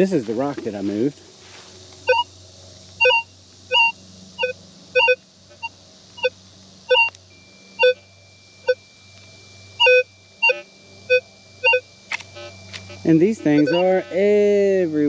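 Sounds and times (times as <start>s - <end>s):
metal detector beeps: 2.1s - 2.3s, 3.0s - 15.0s.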